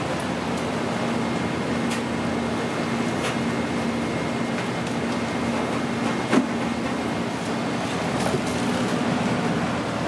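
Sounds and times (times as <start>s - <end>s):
kitchen equipment humming: 0.0s - 10.0s.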